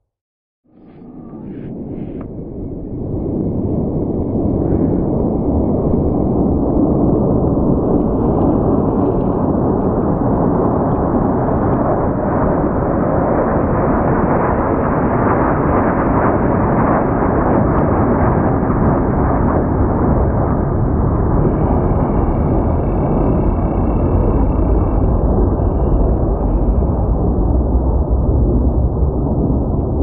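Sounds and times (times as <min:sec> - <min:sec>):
jet aircraft passing overhead: 0:00.7 - 0:30.0.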